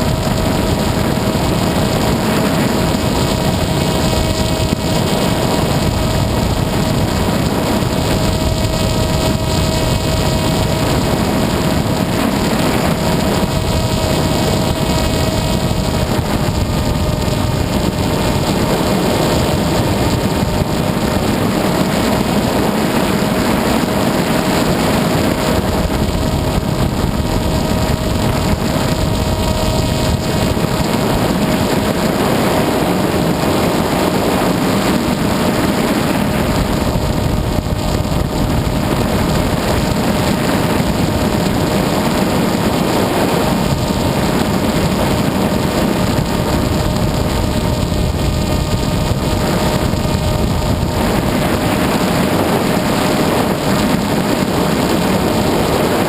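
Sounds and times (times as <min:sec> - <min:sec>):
electric motor and propeller: 0:00.0 - 0:56.0.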